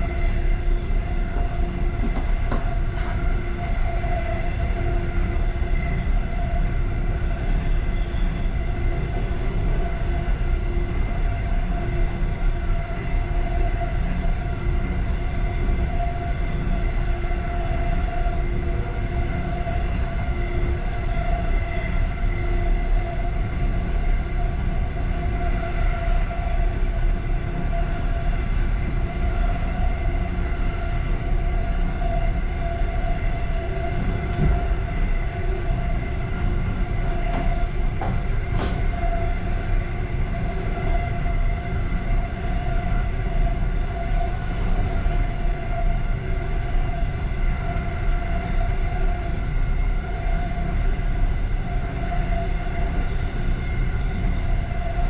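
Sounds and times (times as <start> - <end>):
steady hum: 0.0 - 55.0
train rumble: 0.0 - 55.0.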